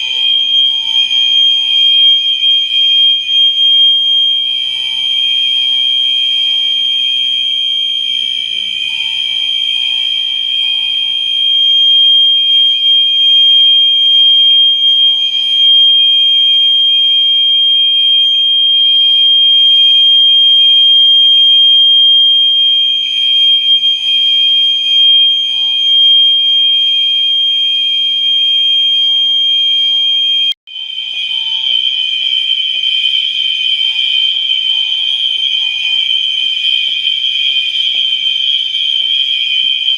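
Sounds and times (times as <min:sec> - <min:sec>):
fire alarm horns: 0:00.0 - 0:39.9.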